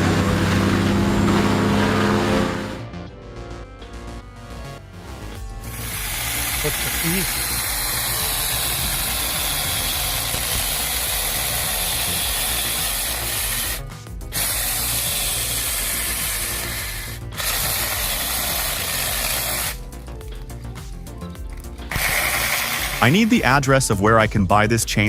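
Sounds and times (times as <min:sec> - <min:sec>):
wood-cutting machinery grinding: 0:00.0 - 0:02.8, 0:05.6 - 0:20.7, 0:21.5 - 0:23.6.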